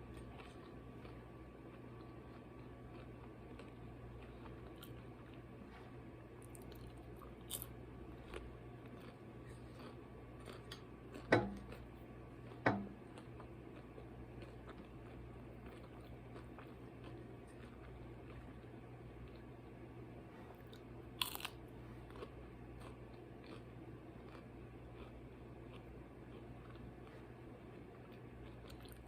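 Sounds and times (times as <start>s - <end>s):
person chewing: 0.0s - 5.5s, 6.4s - 19.8s, 20.5s - 29.0s.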